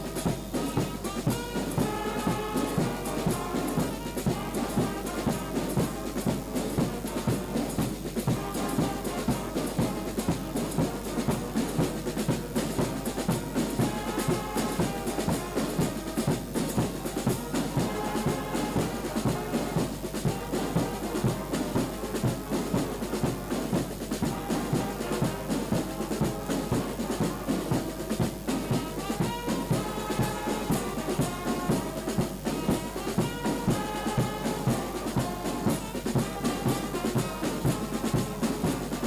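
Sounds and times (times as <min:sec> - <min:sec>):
brass band dance music: 0:00.0 - 0:39.0.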